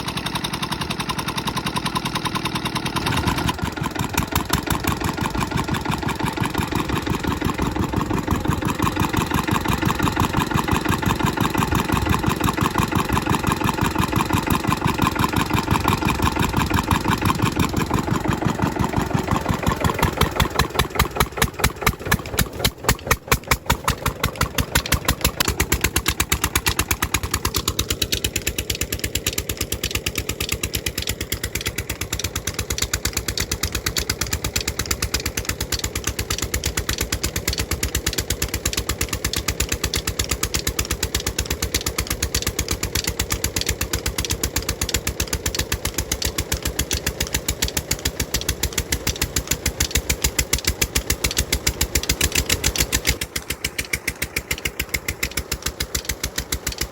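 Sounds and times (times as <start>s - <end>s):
diesel engine chugging: 0.0s - 56.9s.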